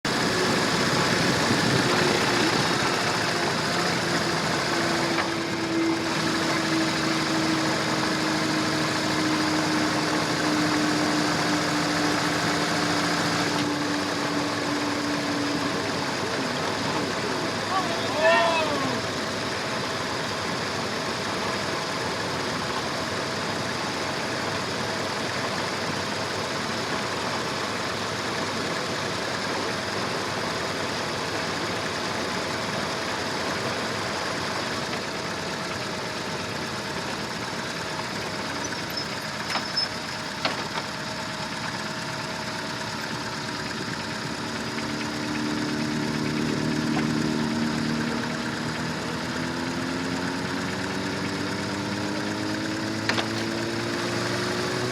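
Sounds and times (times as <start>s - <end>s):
second lower engine: 0.0s - 54.9s
vehicle engine running: 0.0s - 54.9s.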